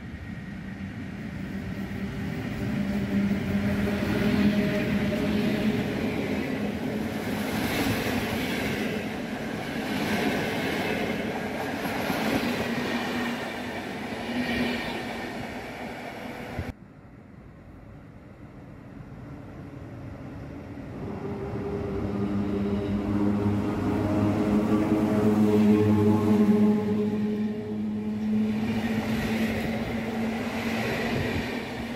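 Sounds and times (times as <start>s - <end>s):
distant train rumble: 0.0s - 31.9s.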